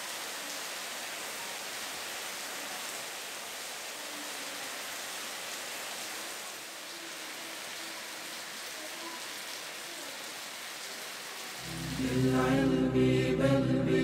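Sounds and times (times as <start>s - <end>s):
heavy rain on pavement and roofs: 0.0s - 12.7s.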